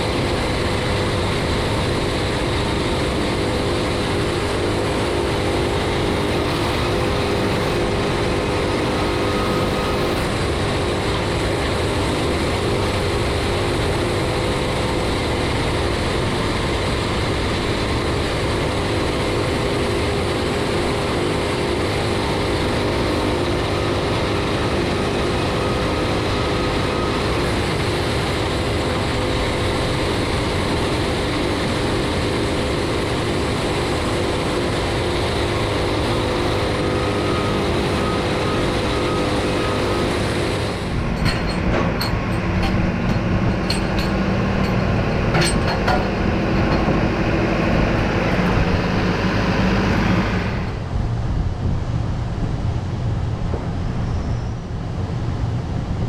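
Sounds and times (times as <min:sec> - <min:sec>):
band saw running: 0:00.0 - 0:50.8
sawmill engine hum: 0:00.0 - 0:56.0.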